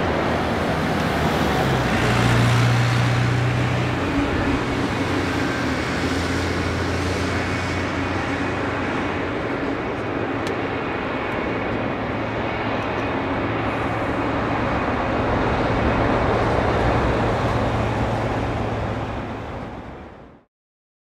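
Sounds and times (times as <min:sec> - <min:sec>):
jet engine rushing: 0:00.0 - 0:20.5.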